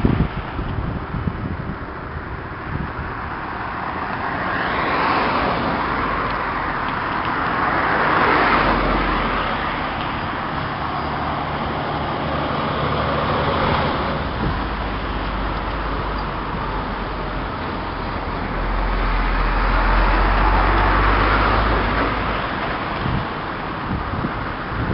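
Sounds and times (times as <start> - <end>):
vehicles passing close by: 0.0 - 24.9.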